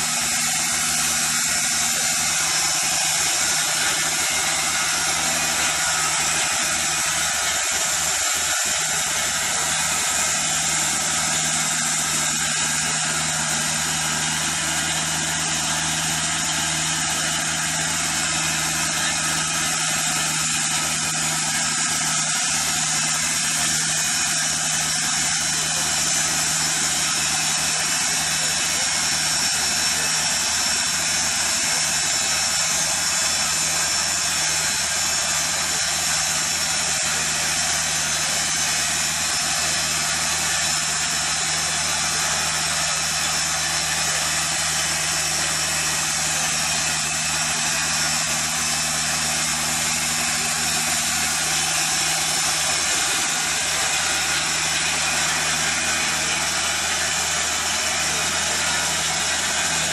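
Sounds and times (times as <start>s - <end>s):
band saw blade cutting wood: 0.0s - 59.9s
engine running under load: 0.0s - 59.9s.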